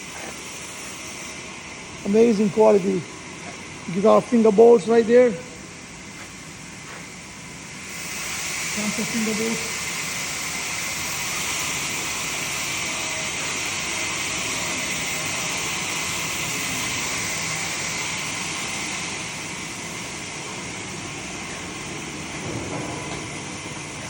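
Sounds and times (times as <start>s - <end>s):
woodworking machinery hissing: 0.0s - 24.0s.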